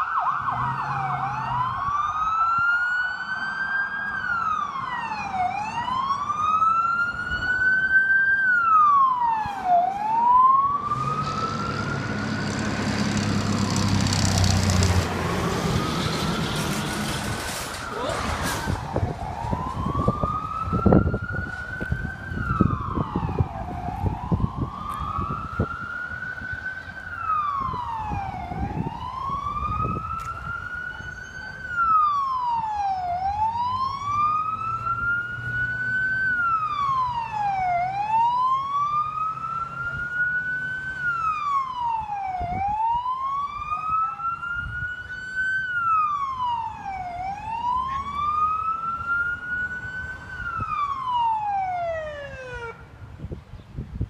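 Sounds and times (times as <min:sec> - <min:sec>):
siren wailing: 0:00.0 - 0:52.9.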